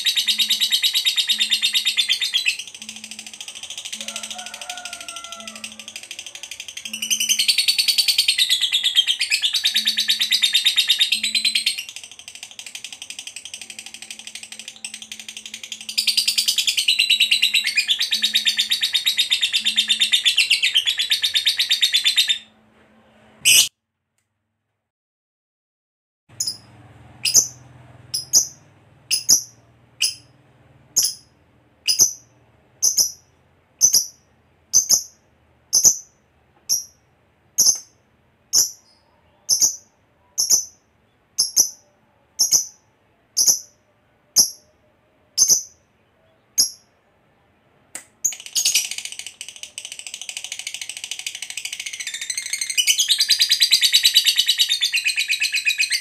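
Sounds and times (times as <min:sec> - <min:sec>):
lovebird chirping and trilling: 0:00.0 - 0:22.5, 0:23.4 - 0:23.7, 0:26.4 - 0:37.0, 0:37.6 - 0:43.8, 0:44.4 - 0:44.8, 0:45.4 - 0:46.9, 0:48.2 - 0:56.0.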